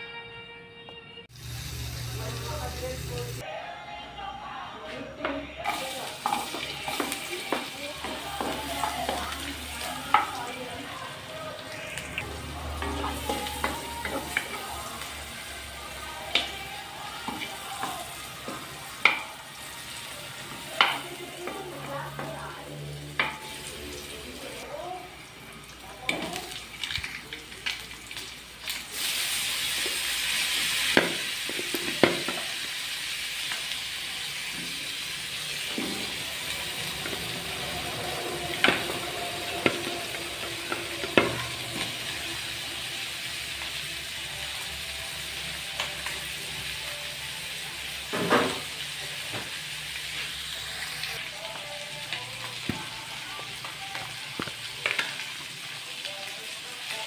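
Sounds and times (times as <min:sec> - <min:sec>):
food sizzling in oil: 0:01.3 - 0:03.5, 0:05.6 - 0:57.0.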